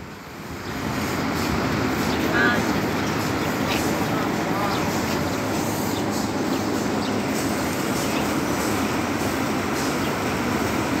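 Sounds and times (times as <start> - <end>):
exhaust fan running: 0.0 - 11.0.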